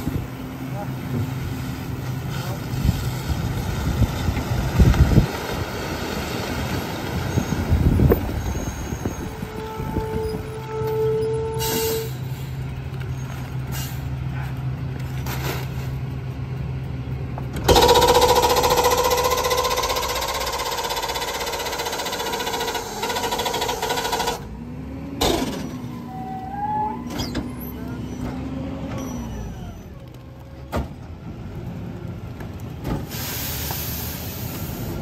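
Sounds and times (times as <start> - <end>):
garbage truck engine: 0.0 - 35.0.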